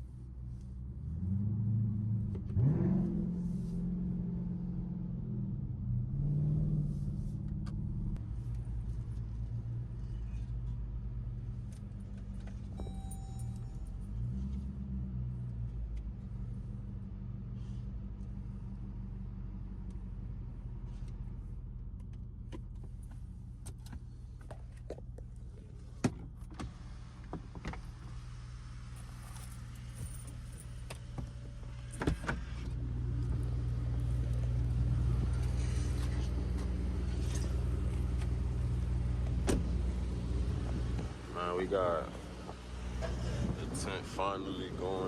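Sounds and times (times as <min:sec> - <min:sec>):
engine idling with exhaust drone: 0:06.8 - 0:45.0.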